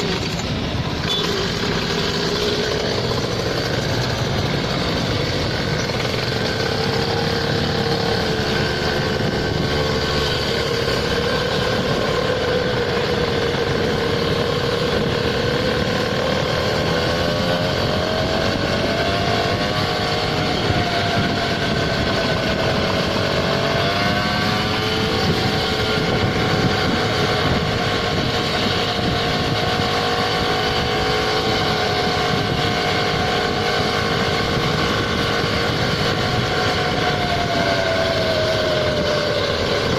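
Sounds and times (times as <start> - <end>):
rushing noise: 0.0 - 39.9
scooter engine running: 0.0 - 39.9.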